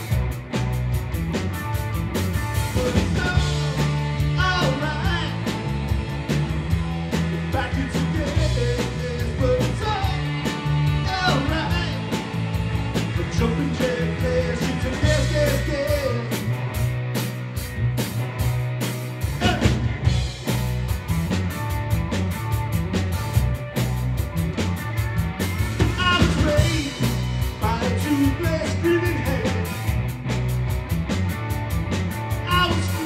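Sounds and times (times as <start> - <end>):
live rock band playing: 0.0 - 33.0
wavering guitar lead line: 0.0 - 33.0.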